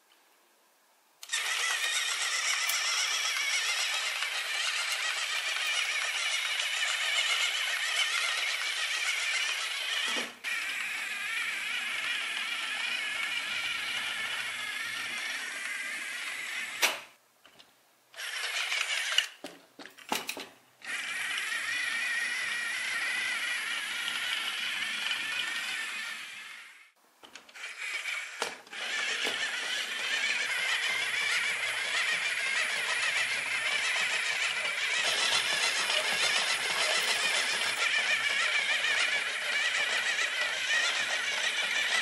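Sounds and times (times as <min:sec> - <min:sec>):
plastic gears clattering and whirring: 0:01.2 - 0:17.1, 0:18.2 - 0:42.0.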